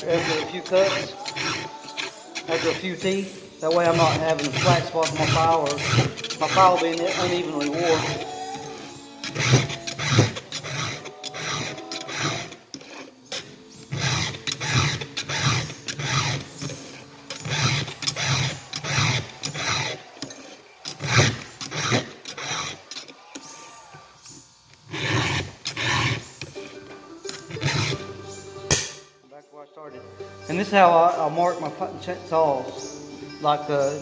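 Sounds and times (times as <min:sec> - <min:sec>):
file scraping chainsaw teeth: 0:00.0 - 0:28.1.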